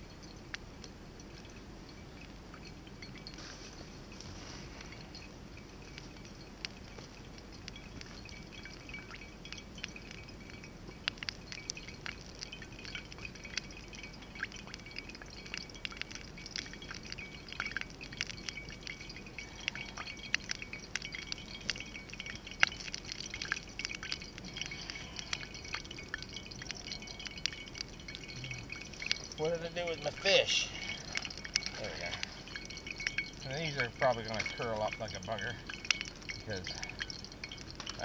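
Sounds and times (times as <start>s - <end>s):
campfire crackling and popping: 0.0s - 38.0s
faint steady hiss: 0.0s - 38.0s.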